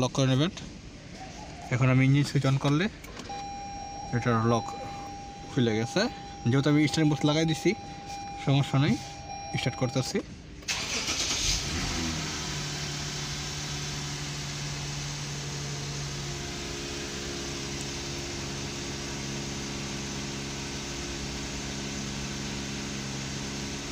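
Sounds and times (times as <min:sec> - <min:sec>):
car engine starting and idling: 0:00.0 - 0:23.9.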